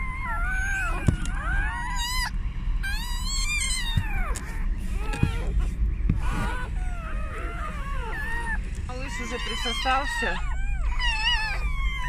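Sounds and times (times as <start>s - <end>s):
newborn puppies squeaking and crying: 0.0s - 12.0s.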